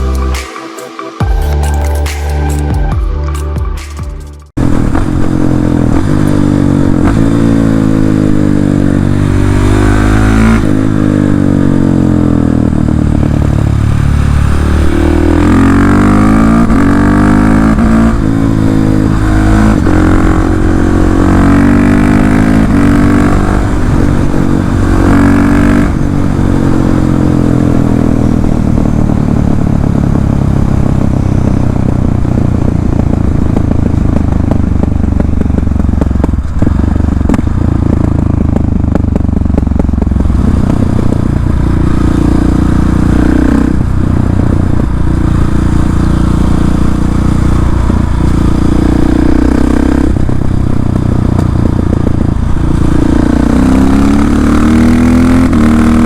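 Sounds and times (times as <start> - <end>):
motorcycle engine accelerating: 4.4 - 56.0.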